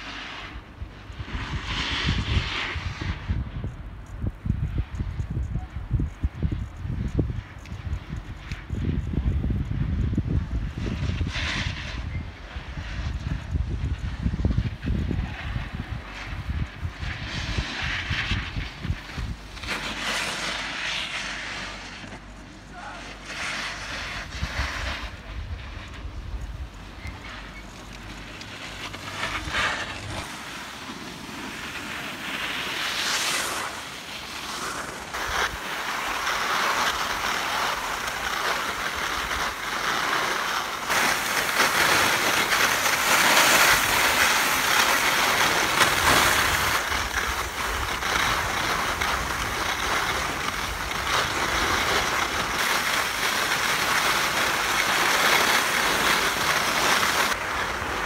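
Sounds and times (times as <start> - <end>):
skis scraping over snow: 0.0 - 58.0
wind rushing over microphone: 0.0 - 58.0.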